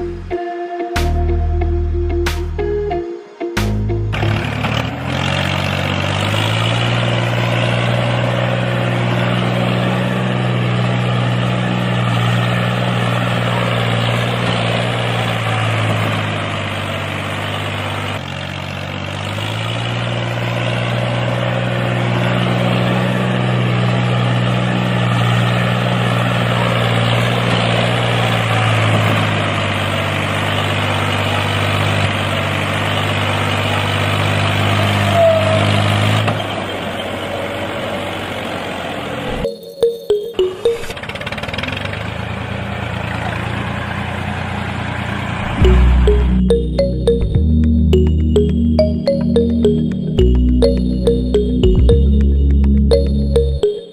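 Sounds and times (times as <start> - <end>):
tractor engine running: 3.7 - 53.9.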